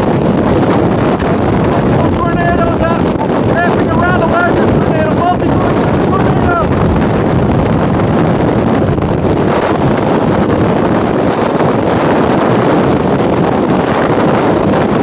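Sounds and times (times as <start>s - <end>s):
wind blasting microphone: 0.0s - 15.0s.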